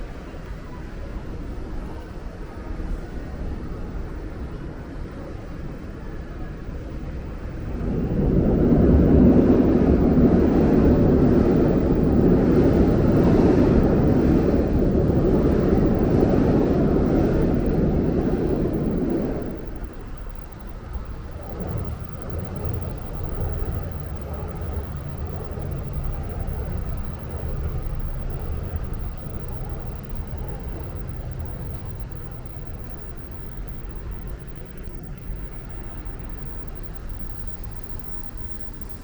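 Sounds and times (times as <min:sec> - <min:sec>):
quiet street noise: 0:00.0 - 0:39.0.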